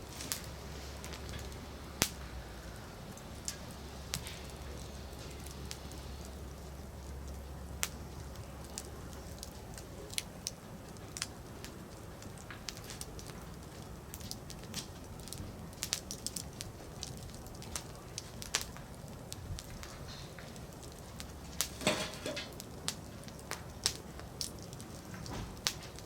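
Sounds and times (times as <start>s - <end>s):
campfire crackling and popping: 0.0s - 26.0s
low steady hiss: 0.0s - 26.0s.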